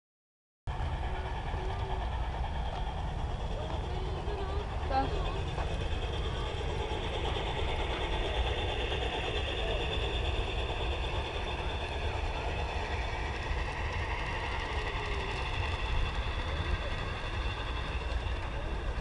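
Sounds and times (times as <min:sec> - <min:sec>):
model train motors whirring: 0:00.7 - 0:19.0
steady low rumble: 0:00.7 - 0:19.0.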